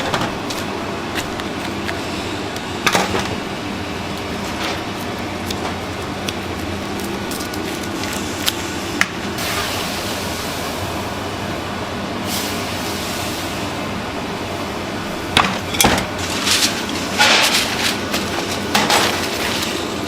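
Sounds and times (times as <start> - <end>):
machine hum and hiss: 0.0 - 20.0.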